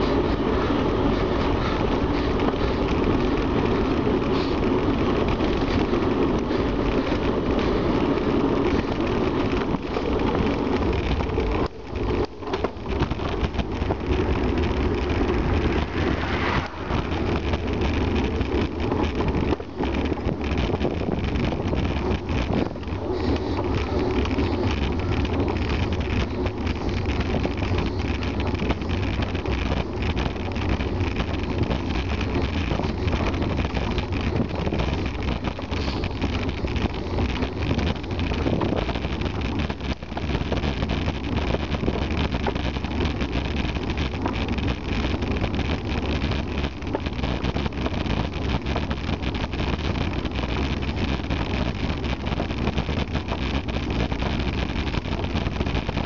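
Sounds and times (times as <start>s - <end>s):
bicycle road noise on tarmac: 0.0s - 56.0s
wind noise on microphone: 0.0s - 56.0s.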